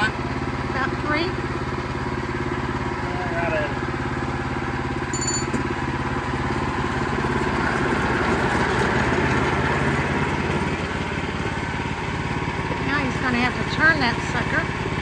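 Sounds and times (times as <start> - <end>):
gas engine running under load: 0.0 - 15.0.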